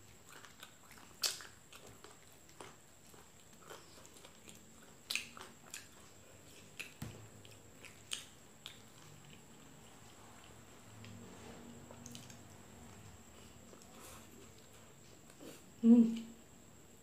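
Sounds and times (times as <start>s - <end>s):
wet chewing clicks and smacks: 0.0s - 15.4s.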